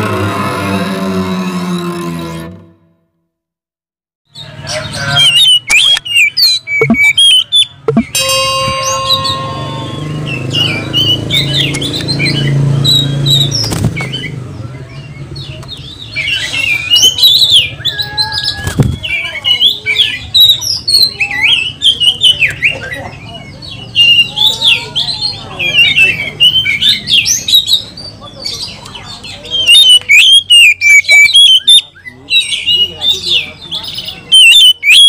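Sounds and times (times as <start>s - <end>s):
bird singing in varied chirps: 4.3s - 8.2s, 8.8s - 35.0s.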